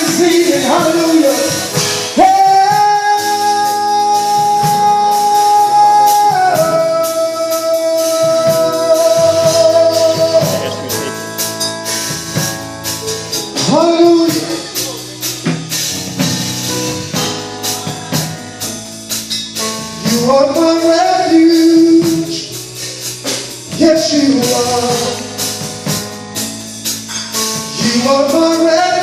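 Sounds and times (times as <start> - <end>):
drum kit: 0.0 - 29.0
gospel band playing: 0.0 - 29.0
guitar: 0.0 - 29.0.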